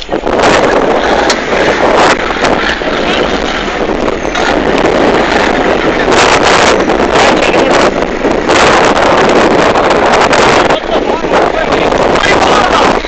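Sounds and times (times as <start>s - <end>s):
off-road vehicle running loudly: 0.0s - 13.0s
wind buffeting microphone: 0.0s - 13.0s.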